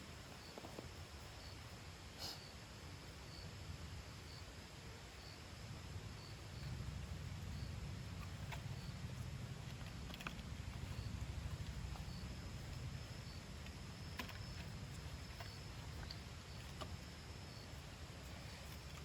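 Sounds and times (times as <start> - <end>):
insects chirping: 0.0 - 19.0
low steady rumble: 0.0 - 19.0.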